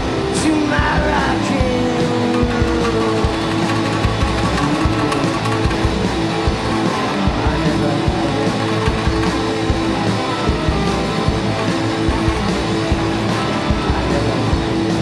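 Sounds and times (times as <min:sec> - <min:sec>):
bass guitar: 0:00.0 - 0:15.0
electric guitars holding notes: 0:00.0 - 0:15.0
steady drum beat: 0:00.8 - 0:15.0.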